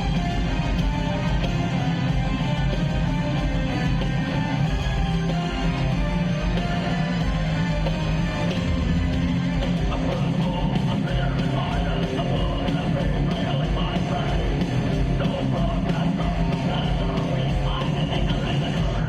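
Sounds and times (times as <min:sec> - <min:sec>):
bass guitar: 0:00.0 - 0:19.0
distorted electric guitars: 0:00.0 - 0:19.0
pounding drums: 0:00.0 - 0:19.0.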